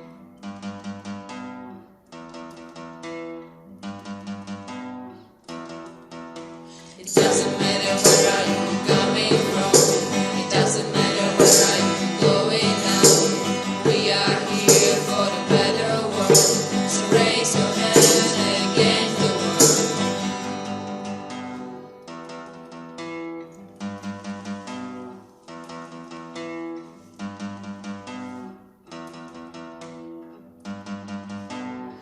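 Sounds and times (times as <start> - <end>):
plucked acoustic guitar: 0.0 - 32.0.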